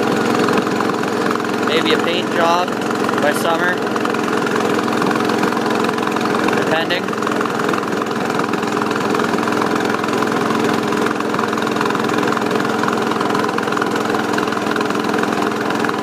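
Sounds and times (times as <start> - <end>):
garden tractor engine running: 0.0 - 16.0.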